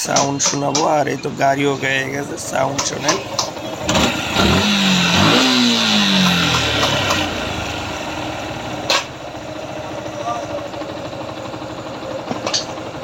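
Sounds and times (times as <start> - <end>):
motorcycle engine revving and idling: 1.2 - 13.0.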